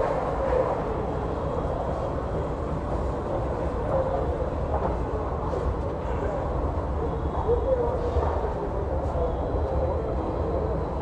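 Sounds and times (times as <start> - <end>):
faint echoing hubbub: 0.0 - 11.0.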